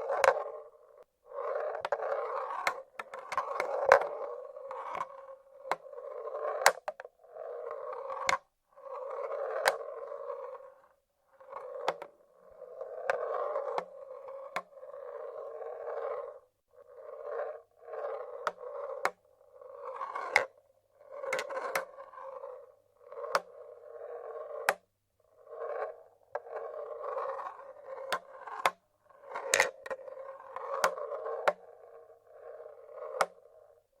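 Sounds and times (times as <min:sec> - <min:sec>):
marbles rolling on wooden tracks: 0:00.0 - 0:24.8, 0:25.4 - 0:33.8.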